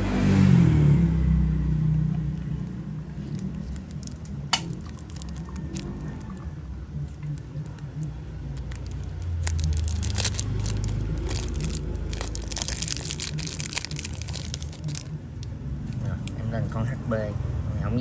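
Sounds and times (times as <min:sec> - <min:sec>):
low rumble of passing traffic: 0:00.0 - 0:18.0.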